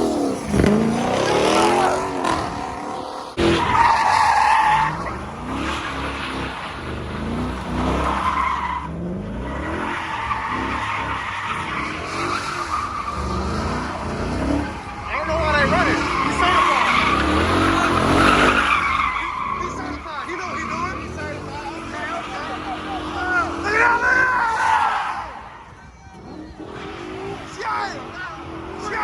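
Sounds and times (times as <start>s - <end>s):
car engine revving: 0.0s - 29.0s
tyres squealing: 0.0s - 29.0s.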